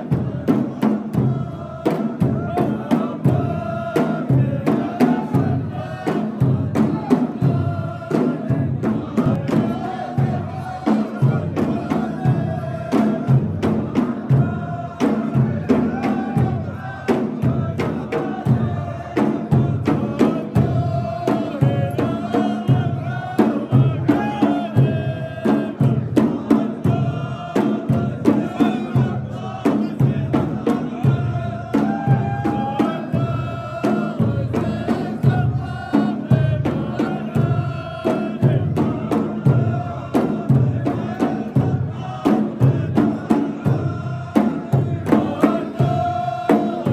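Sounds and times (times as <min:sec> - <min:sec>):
chanted singing: 0:00.0 - 0:46.9
steady percussion beat: 0:00.0 - 0:46.9.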